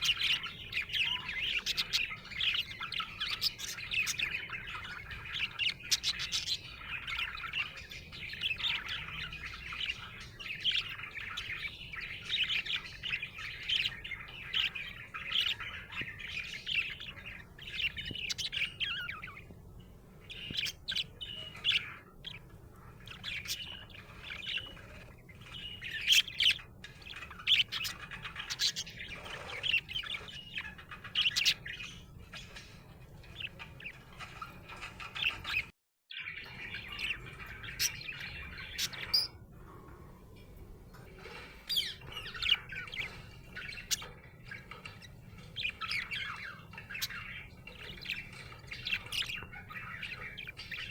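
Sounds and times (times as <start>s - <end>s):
budgerigar chirping: 0.0s - 19.5s, 20.3s - 35.7s, 36.4s - 39.4s, 41.2s - 50.9s.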